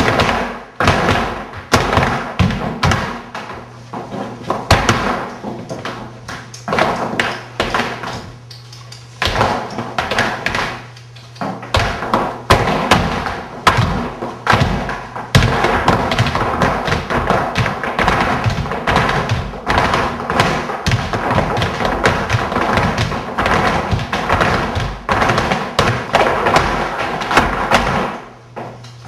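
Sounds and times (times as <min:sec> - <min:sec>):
flamenco shoes stamping on wood: 0:00.0 - 0:08.4, 0:09.2 - 0:28.8.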